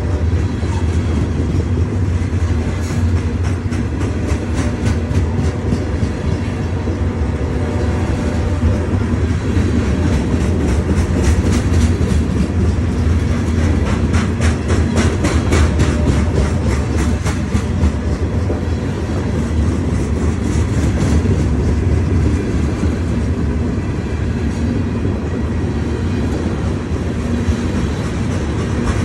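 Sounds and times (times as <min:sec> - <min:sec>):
freight train rumble: 0:00.0 - 0:29.0
wheels clicking over rail joints: 0:00.2 - 0:23.7.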